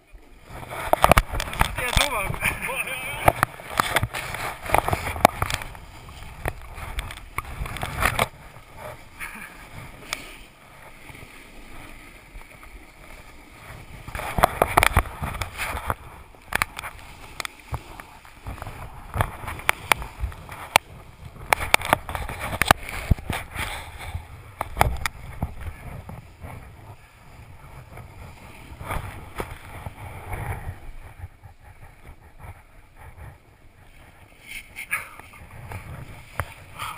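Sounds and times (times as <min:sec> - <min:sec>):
snowboard carving over snow: 0:00.0 - 0:36.9.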